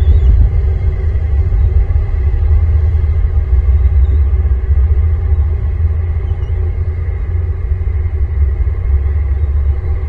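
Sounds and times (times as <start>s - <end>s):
loud low rumble: 0.0s - 10.0s.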